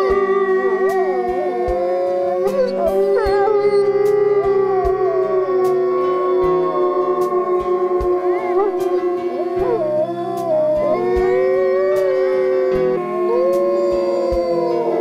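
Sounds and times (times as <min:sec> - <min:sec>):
background music with held notes: 0:00.0 - 0:15.0
wolves howling: 0:00.0 - 0:15.0.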